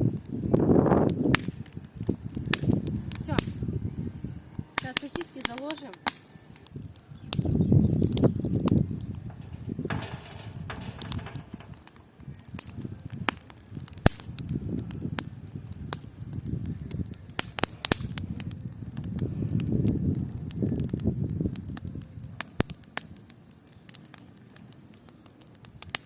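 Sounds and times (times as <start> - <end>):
wind on microphone: 0.0 - 5.5, 6.4 - 22.7
campfire crackling and popping: 0.0 - 26.0.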